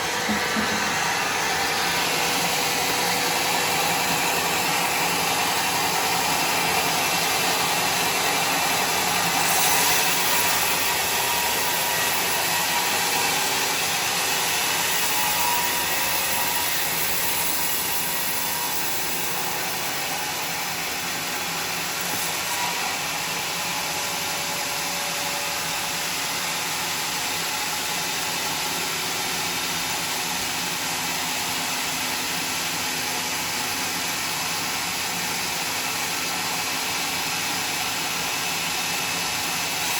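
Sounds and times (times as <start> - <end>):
sawmill sawing timber: 0.0 - 39.9.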